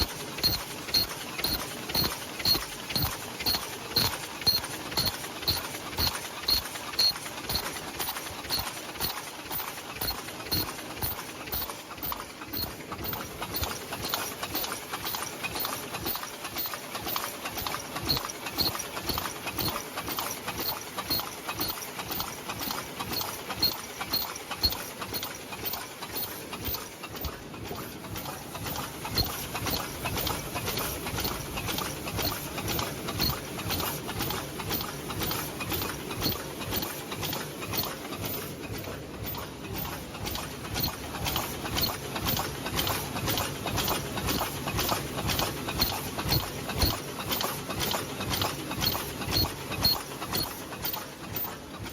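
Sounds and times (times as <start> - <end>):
machine clattering rhythmically: 0.0 - 51.9.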